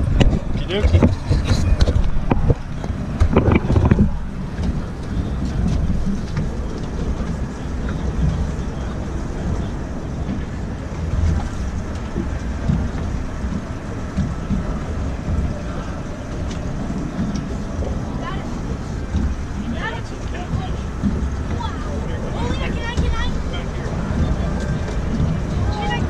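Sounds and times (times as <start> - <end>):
wind rumbling over microphone: 0.0 - 26.0.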